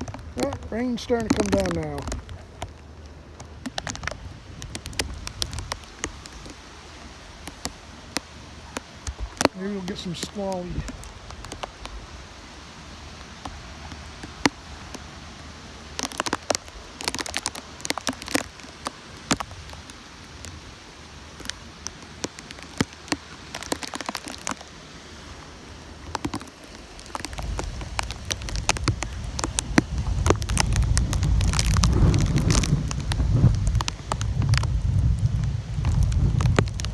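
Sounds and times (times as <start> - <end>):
rain falling steadily: 0.0 - 36.9
raindrops ticking close by: 0.0 - 36.9.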